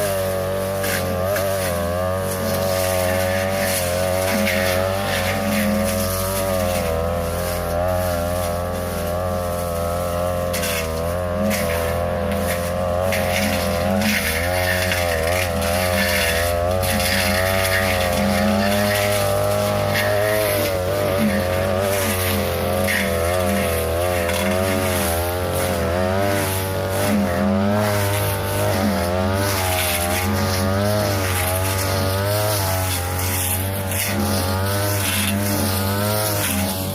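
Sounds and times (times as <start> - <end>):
blade swishing through grass: 0.0 - 36.9
brush cutter engine: 0.0 - 36.9.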